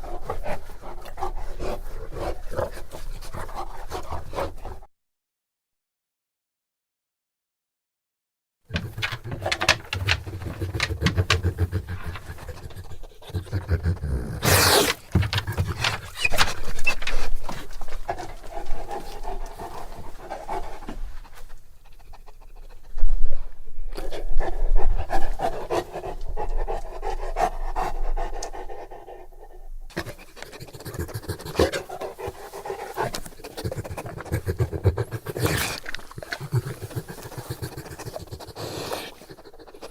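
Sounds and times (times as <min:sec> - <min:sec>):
dog panting heavily: 0:00.0 - 0:04.9, 0:08.8 - 0:23.4, 0:24.0 - 0:39.9.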